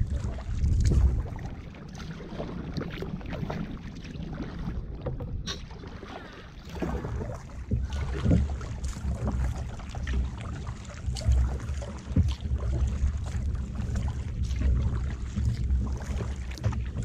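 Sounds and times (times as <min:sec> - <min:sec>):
paddle splashing water: 0:00.0 - 0:17.0
wind rumbling on microphone: 0:00.0 - 0:17.0.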